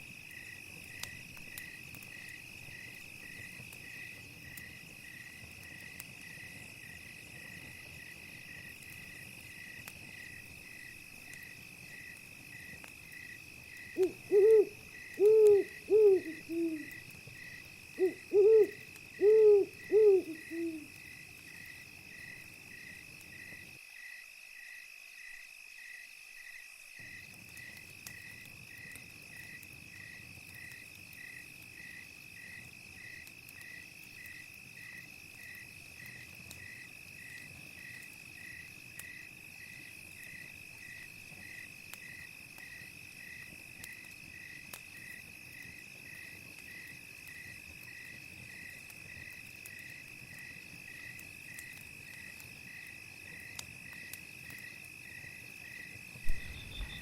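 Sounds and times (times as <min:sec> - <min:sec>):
campfire crackling pops: 0:00.0 - 0:23.8, 0:27.0 - 0:57.0
crickets trilling: 0:00.0 - 0:57.0
insect chirping rhythmically: 0:08.0 - 0:57.0.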